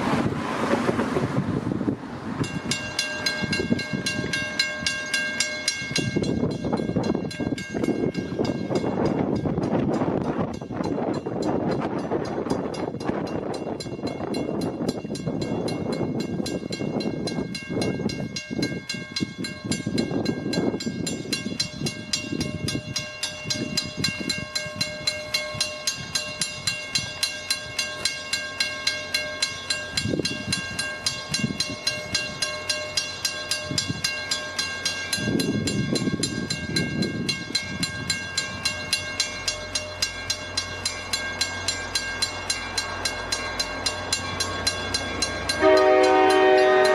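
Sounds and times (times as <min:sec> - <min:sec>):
train rumbling past: 0:00.0 - 0:46.9
crossing bell ringing: 0:02.1 - 0:46.9.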